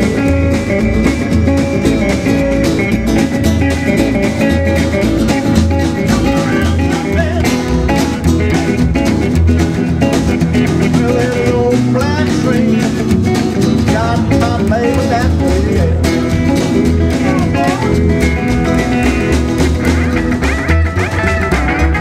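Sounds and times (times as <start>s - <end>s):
electric guitar lead with bends: 0.0s - 22.0s
snare drum: 0.0s - 22.0s
strummed acoustic guitar: 0.0s - 22.0s
upright bass: 0.0s - 22.0s.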